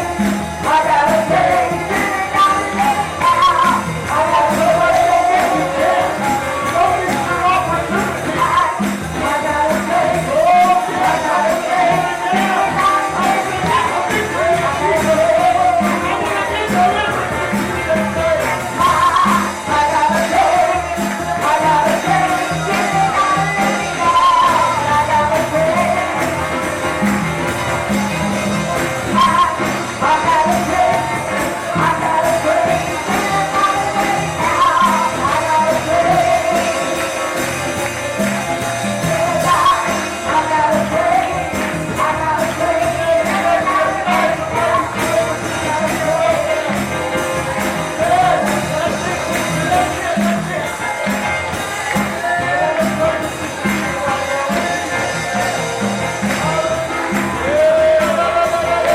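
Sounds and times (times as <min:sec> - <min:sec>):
band playing steady beat: 0:00.0 - 0:58.9
people singing: 0:00.0 - 0:58.9.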